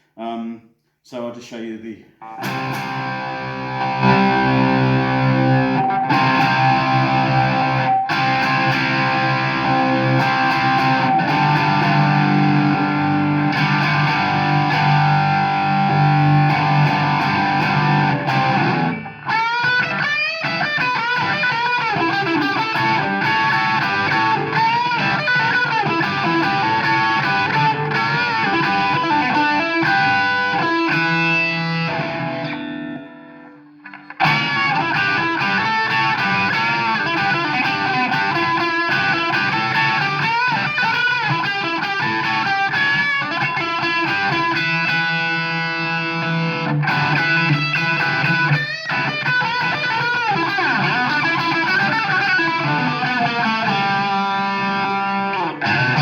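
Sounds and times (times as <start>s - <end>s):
distorted electric guitar: 2.2s - 56.0s.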